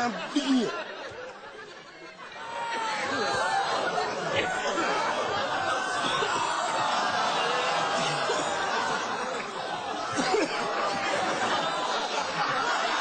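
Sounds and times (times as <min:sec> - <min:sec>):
people laughing: 0:00.0 - 0:13.0
people talking over one another: 0:01.7 - 0:13.0.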